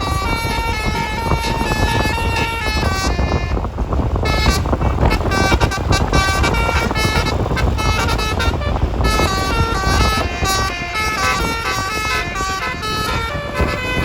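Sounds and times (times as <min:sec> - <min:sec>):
bus horn playing multi-tone tune: 0:00.0 - 0:14.0
low rumble of passing bus: 0:00.0 - 0:14.0.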